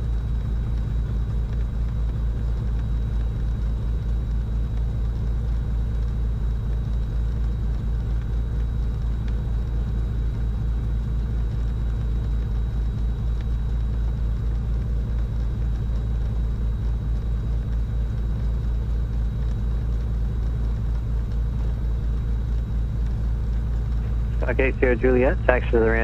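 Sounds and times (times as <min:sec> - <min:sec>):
aircraft piston engines droning: 0:00.0 - 0:26.0.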